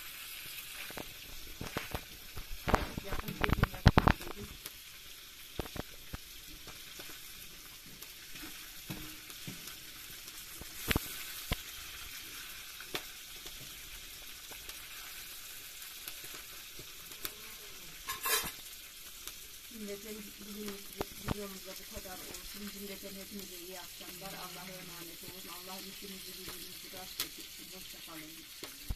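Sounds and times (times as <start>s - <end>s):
liver sizzling in a pan: 0.0s - 28.9s.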